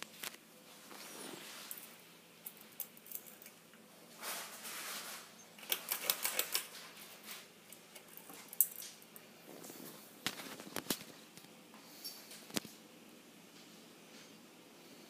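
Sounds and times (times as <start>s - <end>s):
rustling: 0.0s - 12.8s.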